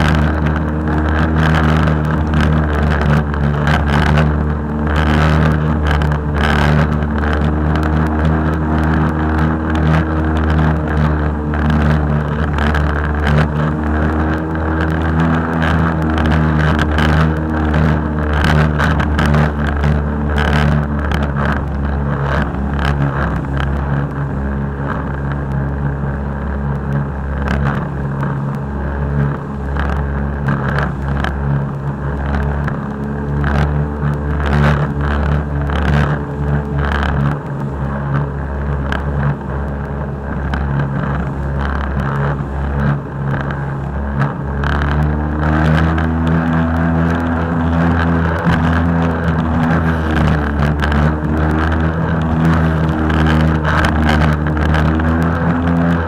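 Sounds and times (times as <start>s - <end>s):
jet ski engine drone: 0.0s - 56.0s.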